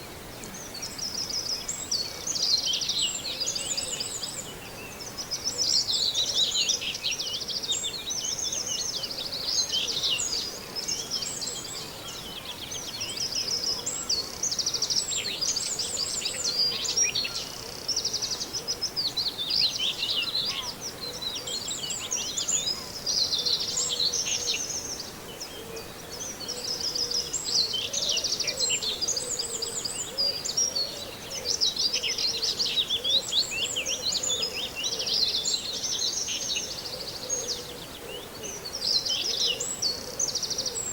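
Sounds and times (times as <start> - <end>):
songbirds chattering and trilling: 0.0 - 40.9.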